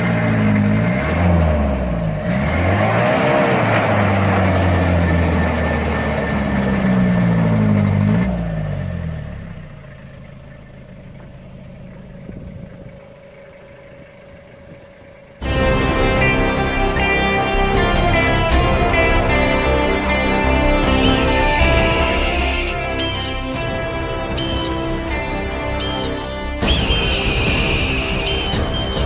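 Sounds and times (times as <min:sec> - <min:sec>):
diesel engine revving under load: 0:00.0 - 0:29.0.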